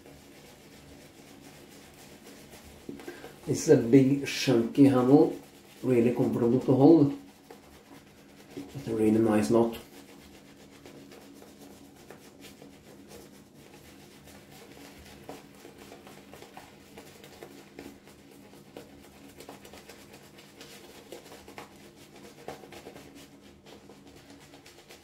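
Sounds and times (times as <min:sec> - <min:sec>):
shaving brush strokes on face: 0:00.0 - 0:25.0.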